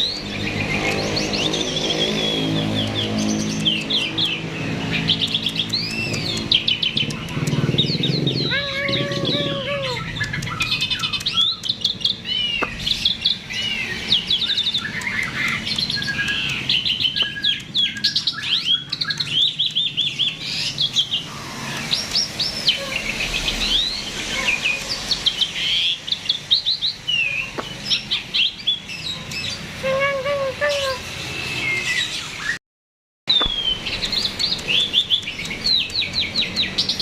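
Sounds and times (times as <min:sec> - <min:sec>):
starling singing: 0:00.0 - 0:32.6.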